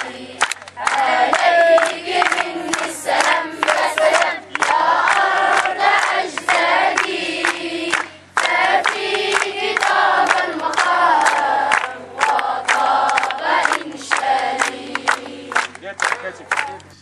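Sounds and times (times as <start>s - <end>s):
children singing a chant: 0.0s - 15.7s
rhythmic hand clapping: 0.0s - 17.0s.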